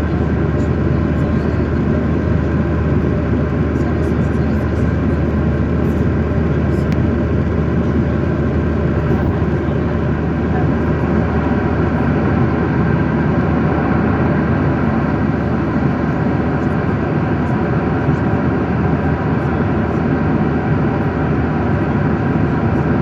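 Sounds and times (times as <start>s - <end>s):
jet airliner cabin rumble: 0.0s - 23.0s.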